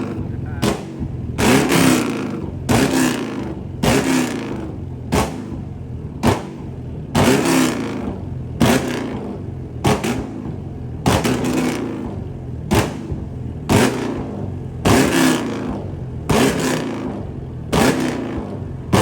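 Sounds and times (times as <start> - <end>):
car engine revving: 0.0 - 19.0
loud exhaust bangs: 0.0 - 19.0.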